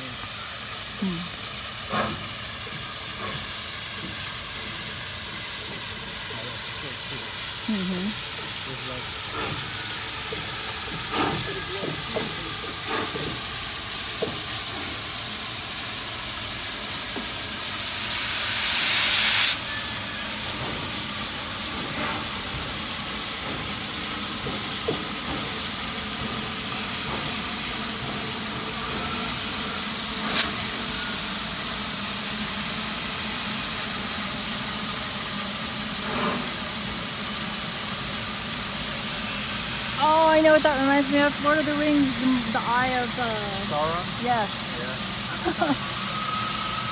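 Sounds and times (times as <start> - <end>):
loud rush of steam: 0.0 - 46.9
steam locomotive hissing: 0.0 - 46.9.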